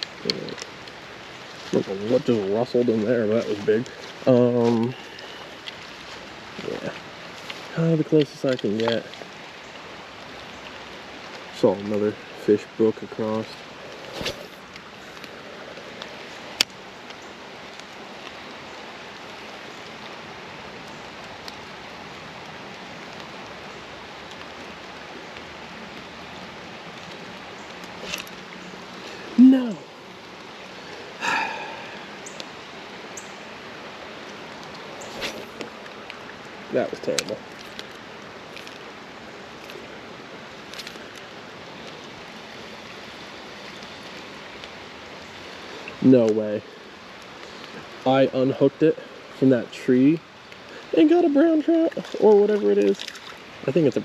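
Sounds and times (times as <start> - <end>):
creek water running: 0.0 - 54.0.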